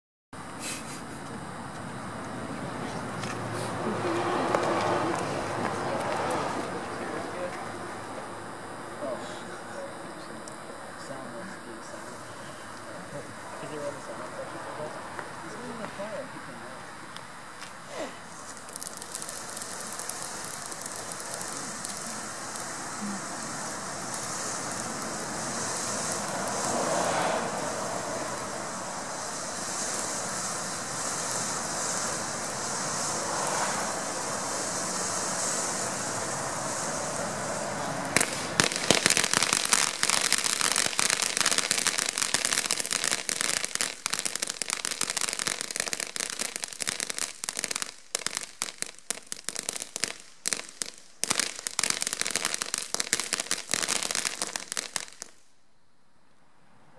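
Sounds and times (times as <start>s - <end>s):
firework fountain hissing: 0.4s - 55.5s
firework crackling: 0.4s - 55.6s.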